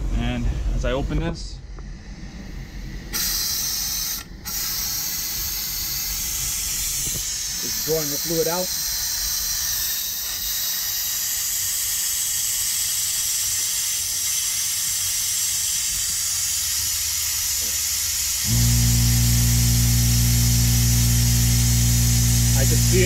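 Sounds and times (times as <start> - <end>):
air compressor motor humming: 1.8 - 23.0
compressed air hissing: 1.8 - 23.0.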